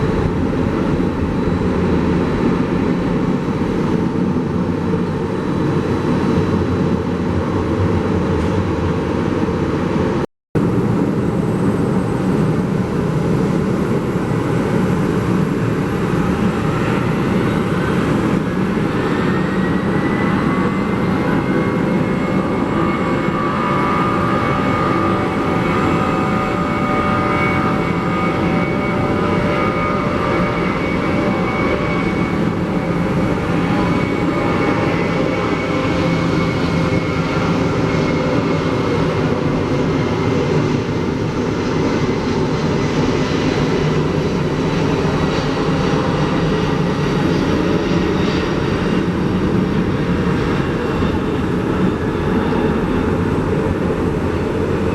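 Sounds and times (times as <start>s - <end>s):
jet airliner engines running: 0.0s - 54.9s.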